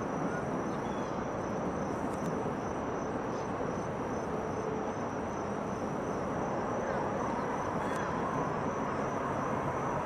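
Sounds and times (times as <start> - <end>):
broad rushing noise: 0.0 - 10.0.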